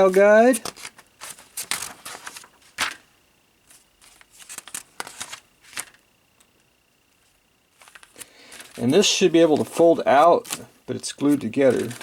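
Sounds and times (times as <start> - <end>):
paper pages rustling: 0.0 - 3.0, 3.6 - 6.0, 7.2 - 12.0.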